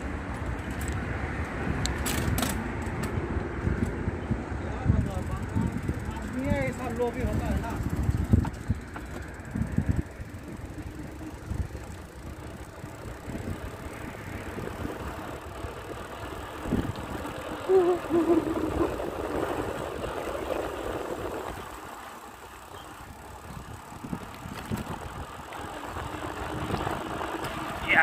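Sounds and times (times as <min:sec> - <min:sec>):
bicycle road and wind noise: 0:00.0 - 0:28.0.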